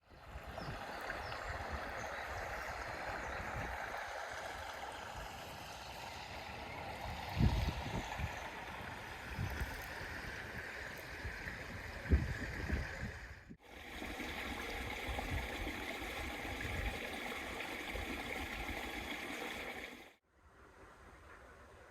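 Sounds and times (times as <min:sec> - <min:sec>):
flowing water rushing: 0:00.0 - 0:20.2.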